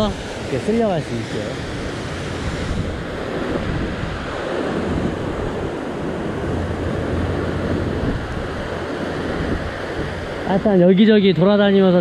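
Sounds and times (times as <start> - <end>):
ocean swell breaking on rocks: 0.0 - 11.8
wind buffeting microphone: 0.0 - 12.0.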